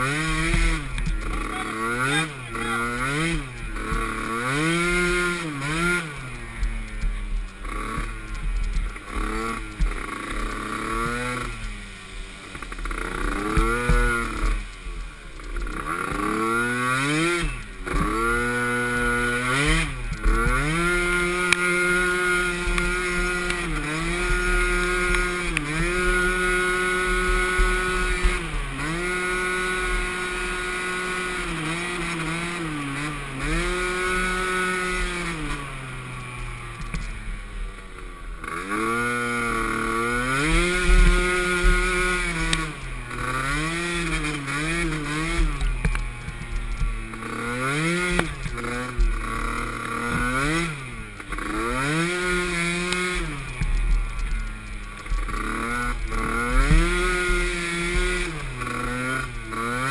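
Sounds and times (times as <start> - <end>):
small atv engine revving: 0.0 - 59.9.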